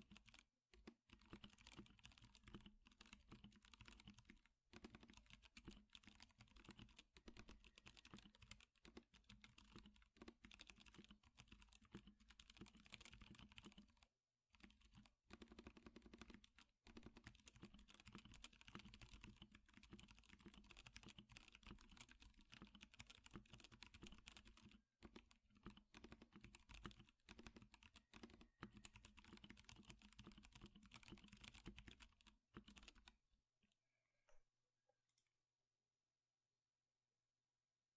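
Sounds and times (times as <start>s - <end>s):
typing on mechanical keyboard: 0.0s - 33.2s.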